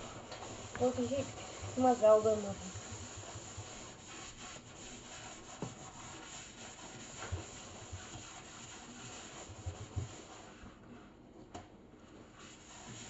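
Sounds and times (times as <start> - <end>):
cloth scrubbing a steel sink: 0.0 - 11.2, 12.0 - 13.0.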